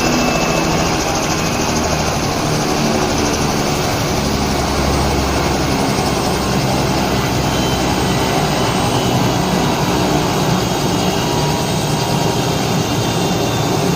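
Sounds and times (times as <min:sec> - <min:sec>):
helicopter engine and rotor: 0:00.0 - 0:13.9.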